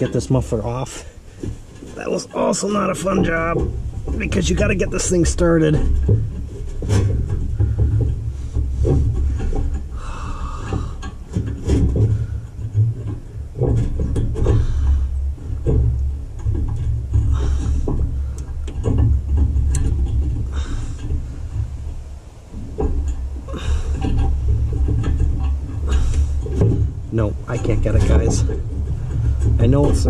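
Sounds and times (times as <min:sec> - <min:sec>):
hissy rustles: 0:00.0 - 0:30.0
wind rumbling on microphone: 0:00.0 - 0:30.0.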